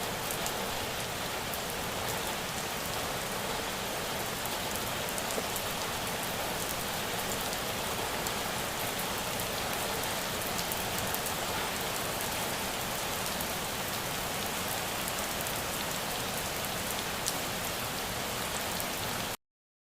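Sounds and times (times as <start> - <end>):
steady rain falling: 0.0 - 19.4.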